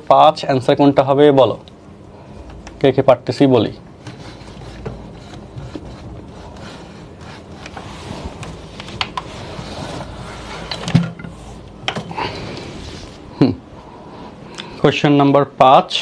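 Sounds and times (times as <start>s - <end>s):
room background noise: 0.0s - 16.0s.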